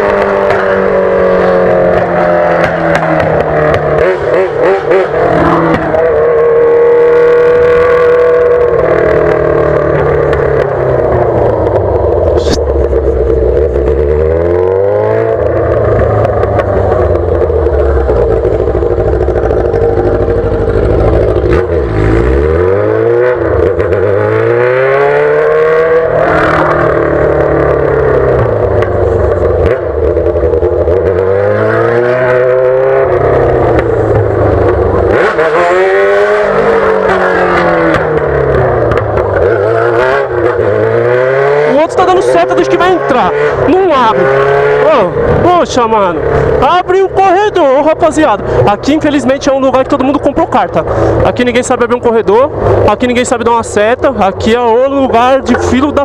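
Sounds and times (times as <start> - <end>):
loud motorcycle engine revving: 0.0 - 56.0.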